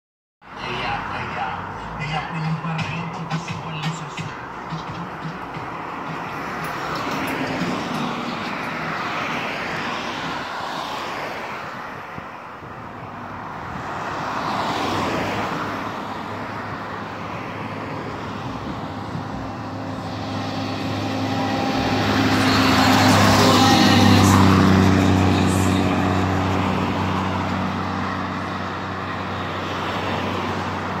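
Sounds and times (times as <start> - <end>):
bus engine approaching: 0.4 - 31.0
cars swishing past on highway: 0.4 - 31.0.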